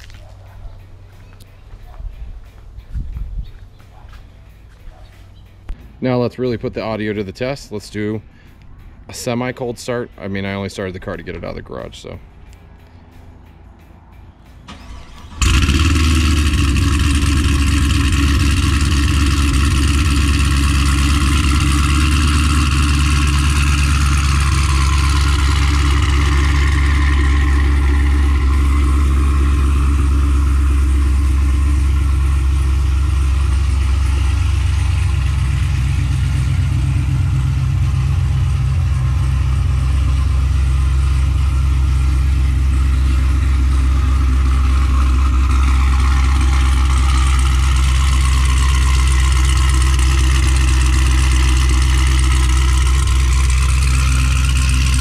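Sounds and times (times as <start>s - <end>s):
car engine starting and idling: 5.6s - 55.0s.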